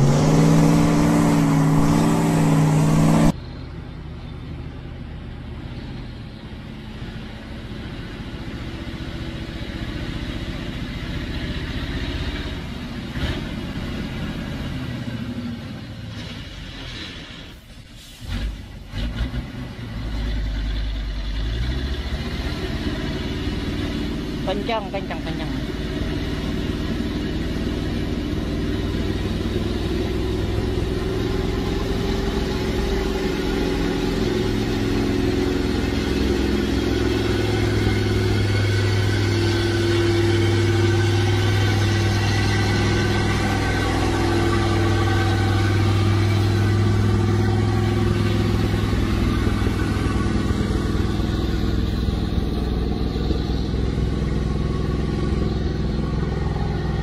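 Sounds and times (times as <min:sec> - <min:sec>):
truck diesel engine droning: 0:00.0 - 0:57.0.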